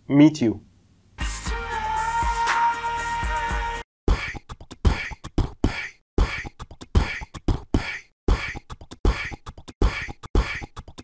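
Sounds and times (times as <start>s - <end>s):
beatboxing: 1.2s - 11.0s.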